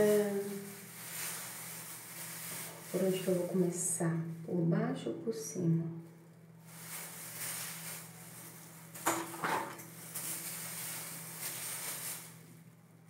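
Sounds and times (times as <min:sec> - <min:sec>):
plastic gloves rustling and crinkling: 0:00.0 - 0:13.0.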